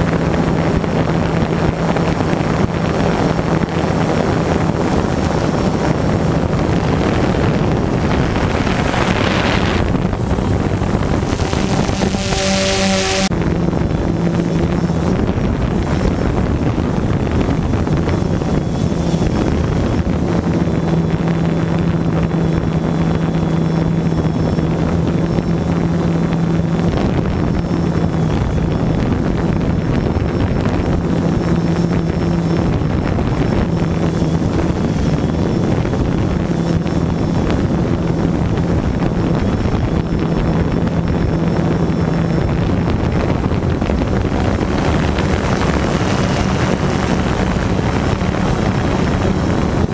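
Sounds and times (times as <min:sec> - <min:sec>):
drone propellers humming: 0:00.0 - 0:49.9
wind on microphone: 0:00.0 - 0:49.9.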